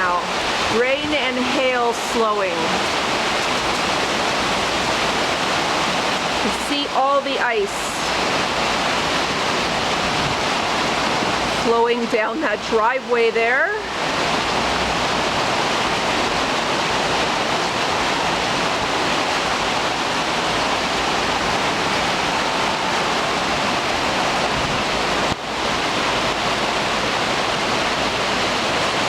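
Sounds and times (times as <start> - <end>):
rain and hail falling: 0.0 - 29.0.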